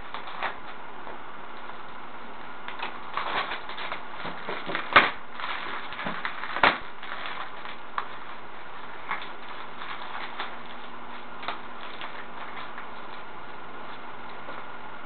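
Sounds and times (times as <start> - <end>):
wrapping paper crinkling: 0.0 - 0.8, 2.6 - 14.8.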